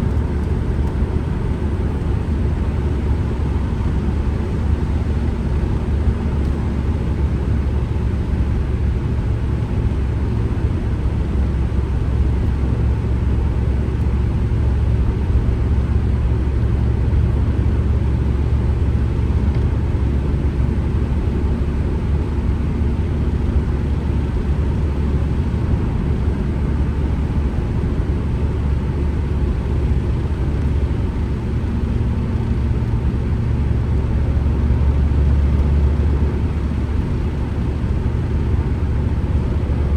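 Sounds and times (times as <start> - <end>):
road rumble: 0.0 - 39.9
van engine drone: 0.0 - 39.9.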